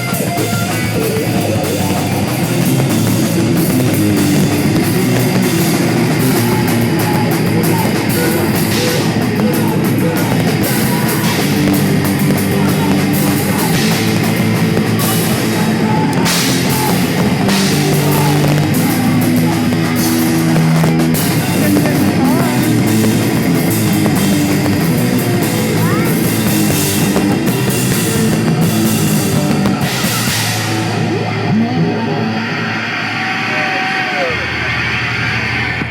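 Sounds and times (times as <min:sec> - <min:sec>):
distorted electric guitars: 0:00.0 - 0:35.9
drum kit: 0:00.0 - 0:35.9.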